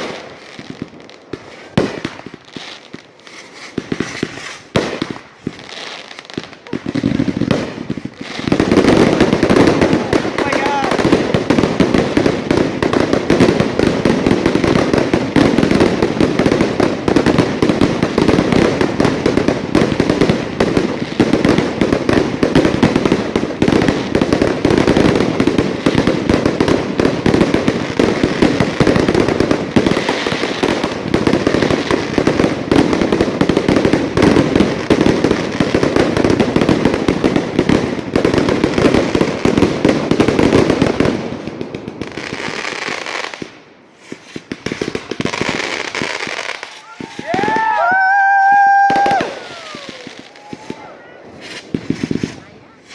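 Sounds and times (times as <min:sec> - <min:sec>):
fireworks crackling: 0:00.0 - 0:52.9.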